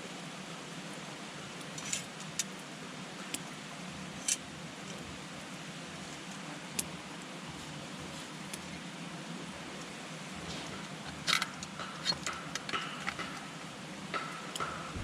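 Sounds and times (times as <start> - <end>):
campfire burning with low hiss: 0.0 - 15.0
fire crackles and pops: 0.8 - 15.0.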